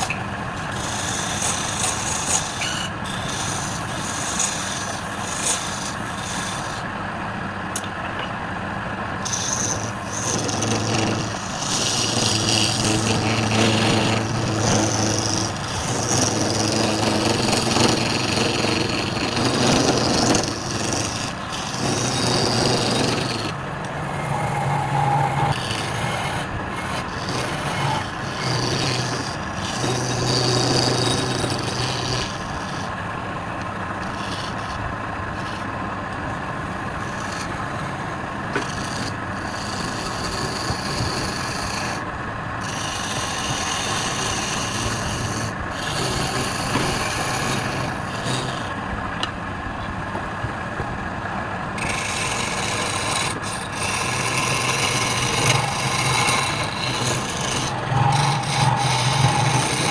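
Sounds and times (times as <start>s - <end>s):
turning tool scraping wood: 0.0s - 6.9s, 9.2s - 49.3s, 51.8s - 59.9s
wood lathe motor hum: 0.0s - 7.9s, 8.6s - 59.9s.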